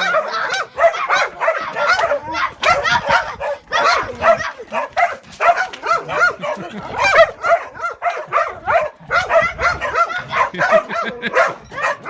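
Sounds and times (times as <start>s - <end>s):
dogs yelping and barking: 0.0s - 12.0s.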